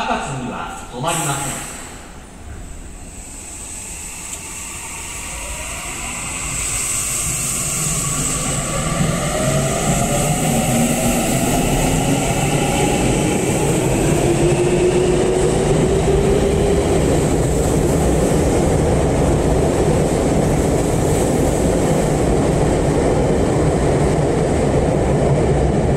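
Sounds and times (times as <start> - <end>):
subway train rumbling: 0.0 - 25.9.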